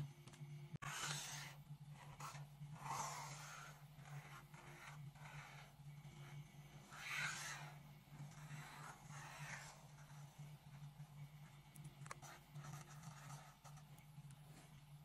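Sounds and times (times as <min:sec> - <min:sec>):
low steady hum: 0:00.0 - 0:15.0
marker scratching on paper: 0:00.8 - 0:13.9.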